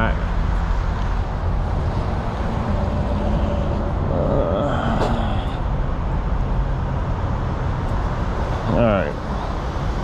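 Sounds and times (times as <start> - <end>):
vehicles rumbling: 0.0 - 10.0.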